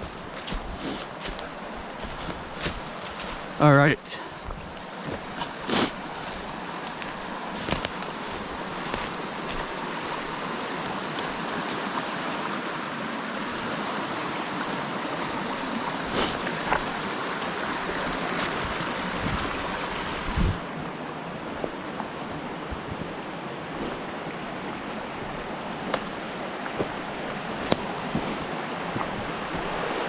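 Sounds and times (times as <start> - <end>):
creek rushing over rocks: 0.0 - 30.0.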